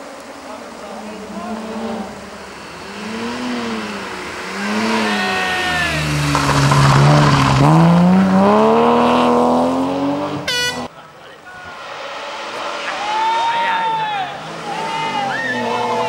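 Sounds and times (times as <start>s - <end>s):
rally car engine revving: 0.2s - 10.9s, 11.5s - 16.0s.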